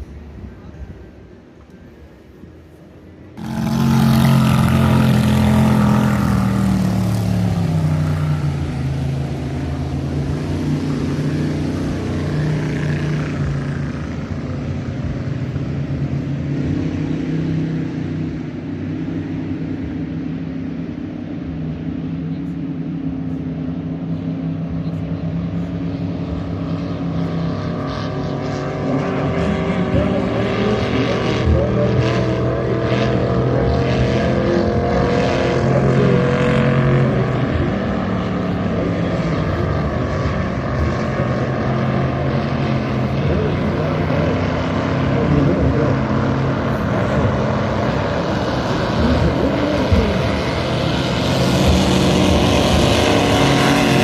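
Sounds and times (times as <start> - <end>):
racing boat engines droning: 0.0 - 54.0.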